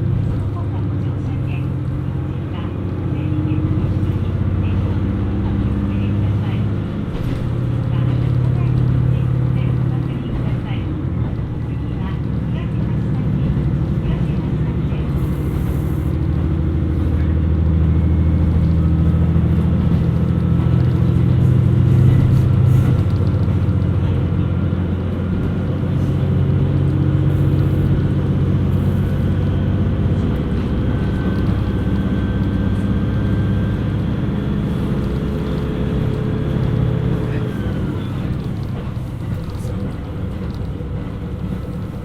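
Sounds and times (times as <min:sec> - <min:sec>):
diesel engine drone: 0:00.0 - 0:42.0.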